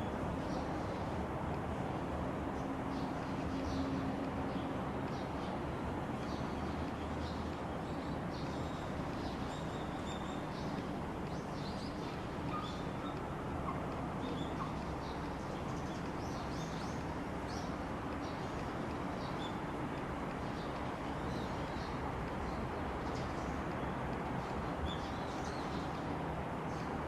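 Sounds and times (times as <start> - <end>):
small birds chirping: 4.5 - 27.0.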